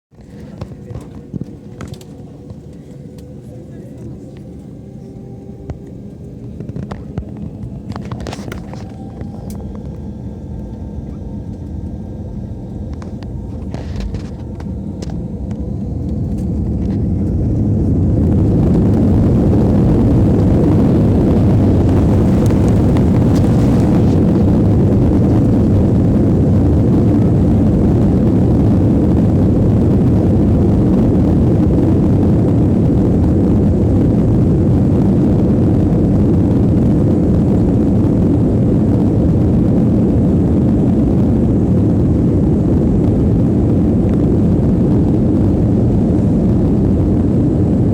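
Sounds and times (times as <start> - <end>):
jet engines roaring at takeoff: 0.2 - 47.9.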